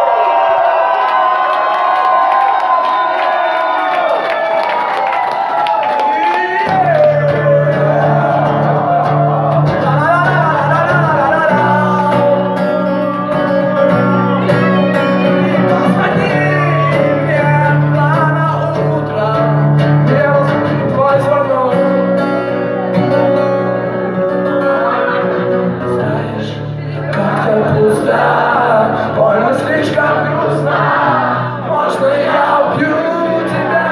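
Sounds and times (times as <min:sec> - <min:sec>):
person singing: 0:06.3 - 0:33.9
guitars: 0:06.5 - 0:33.9.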